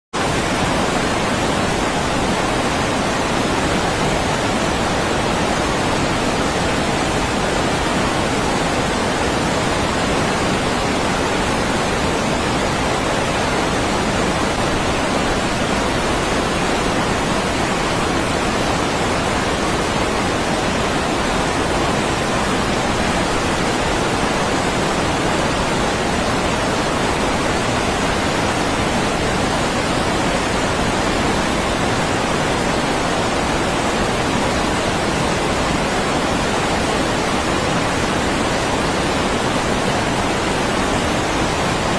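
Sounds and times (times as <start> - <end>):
rushing river water: 0.2 - 41.9.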